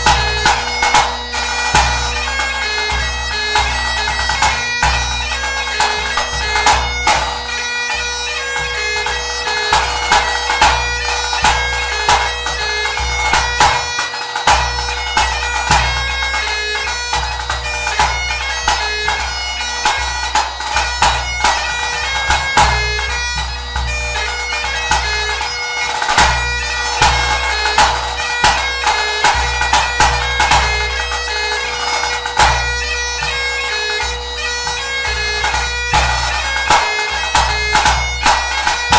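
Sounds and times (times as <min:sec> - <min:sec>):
bagpipe playing a tune: 0:00.0 - 0:38.9.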